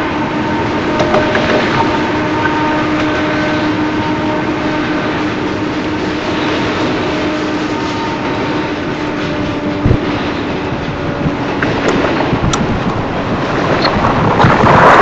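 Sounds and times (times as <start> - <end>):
thin steady whining tone: 0.0 - 14.8
train wheels rumbling on rails: 0.0 - 15.0.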